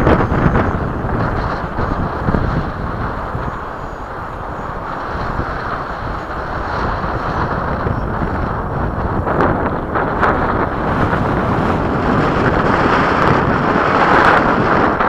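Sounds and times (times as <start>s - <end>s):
model jet whine: 0.0s - 15.0s
wind buffeting microphone: 0.0s - 15.0s.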